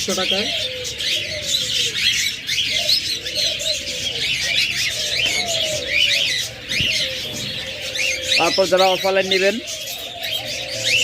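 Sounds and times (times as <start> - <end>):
birds chirping and chattering: 0.0 - 11.0
doves cooing: 0.0 - 11.0.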